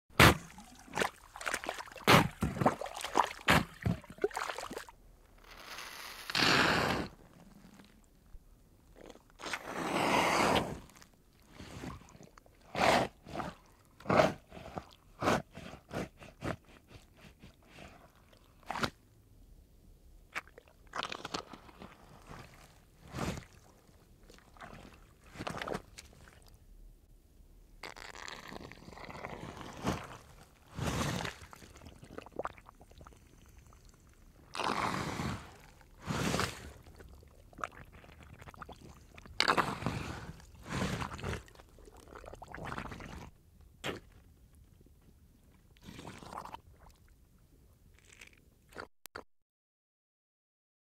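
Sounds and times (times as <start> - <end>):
wet mud sucking squelches: 0.2 - 8.0, 9.0 - 19.0, 20.3 - 26.5, 27.8 - 44.3, 45.8 - 47.0.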